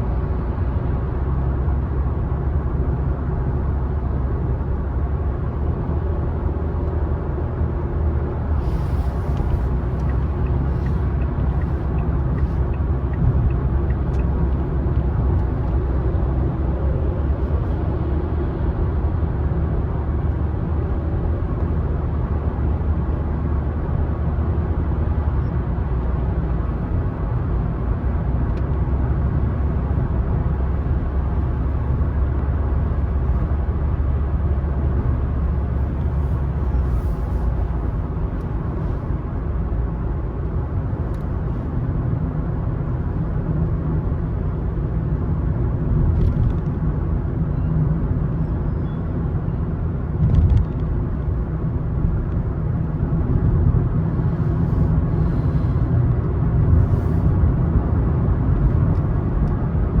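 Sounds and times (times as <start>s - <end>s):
car engine and tyres rumbling: 0.0s - 60.0s.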